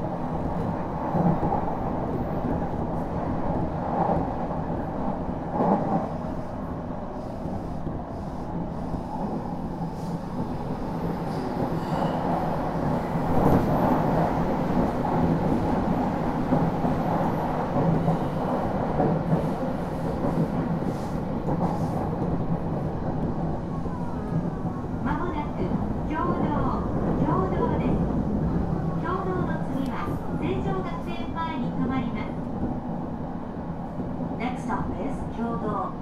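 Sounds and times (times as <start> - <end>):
train wheels rumbling: 0.0 - 35.7.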